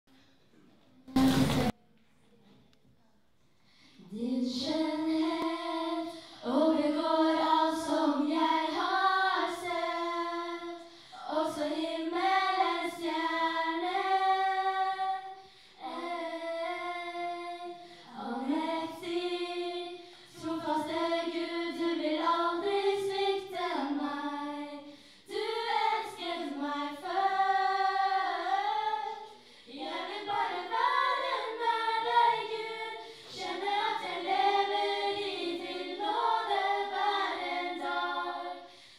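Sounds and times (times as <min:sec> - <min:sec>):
women singing through pa: 0:04.0 - 0:38.9.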